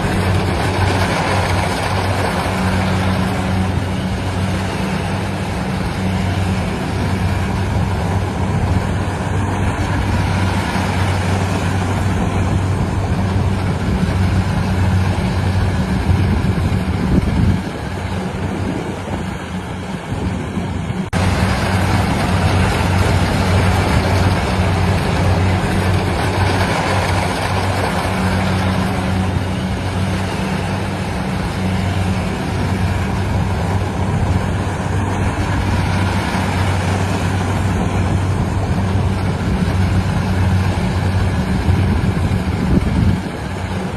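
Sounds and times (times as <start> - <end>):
harvester engine humming: 0.0 - 43.9.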